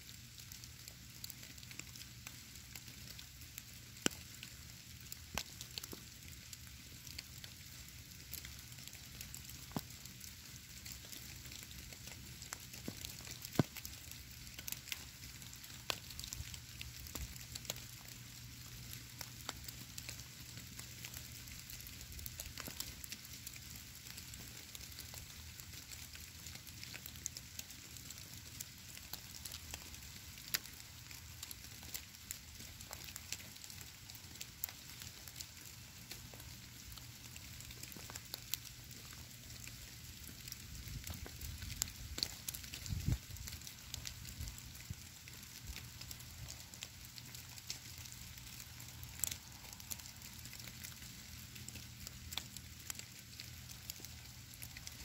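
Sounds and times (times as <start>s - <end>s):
snow pattering: 1.6s - 55.0s.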